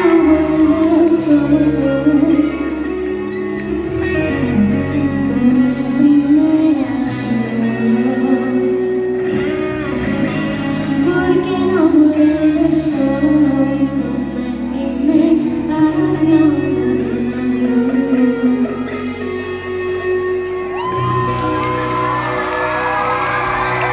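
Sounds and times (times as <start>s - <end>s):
live pop band with guitar: 0.0s - 23.9s
woman singing: 0.0s - 23.9s.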